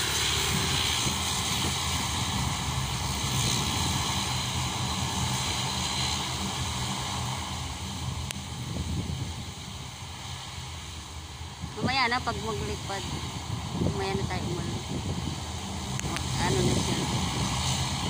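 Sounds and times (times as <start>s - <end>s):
propeller drone: 0.0s - 18.0s.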